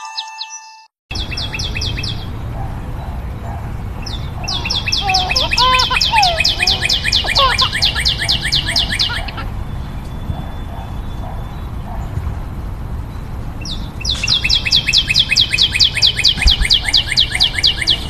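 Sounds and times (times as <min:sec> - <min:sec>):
bird trilling chirps: 0:00.0 - 0:18.0
low gliding whistles: 0:01.2 - 0:12.2, 0:13.1 - 0:18.0.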